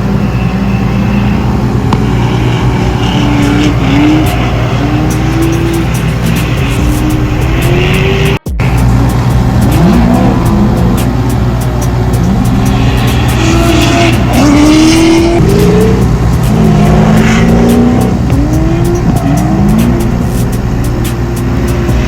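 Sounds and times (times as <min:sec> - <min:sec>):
car engines revving hard: 0:00.0 - 0:22.0
tyre squeal: 0:00.0 - 0:22.0.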